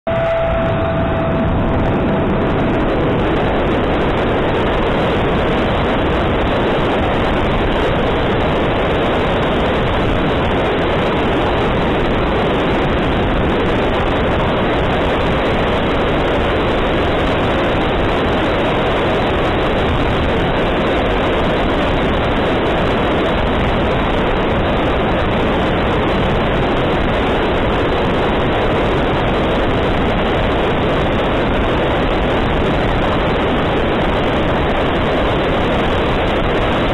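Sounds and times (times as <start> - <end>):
model jet roaring in flight: 0.1 - 36.9.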